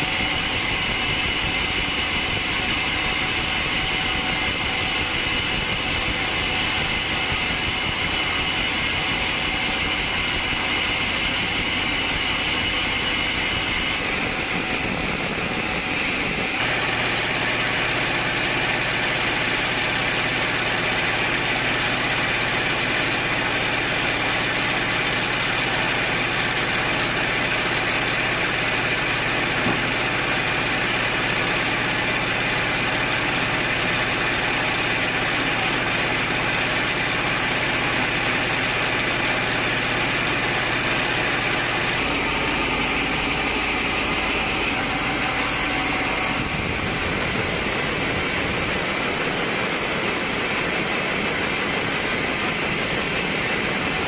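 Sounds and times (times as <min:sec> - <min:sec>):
woodworking machine humming and whining: 0:00.0 - 0:54.0.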